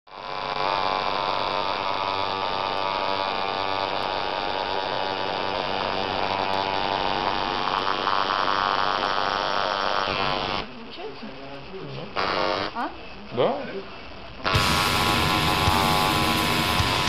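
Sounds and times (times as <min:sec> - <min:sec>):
tattoo machine buzzing: 0:00.1 - 0:10.7, 0:12.1 - 0:12.9, 0:14.4 - 0:17.0.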